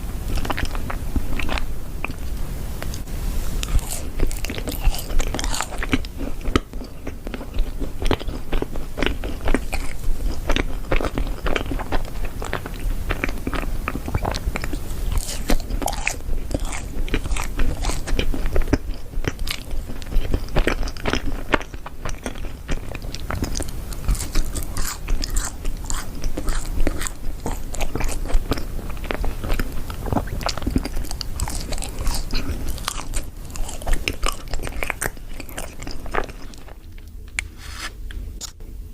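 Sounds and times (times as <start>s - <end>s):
crunchy cookie chewing: 0.0s - 38.6s.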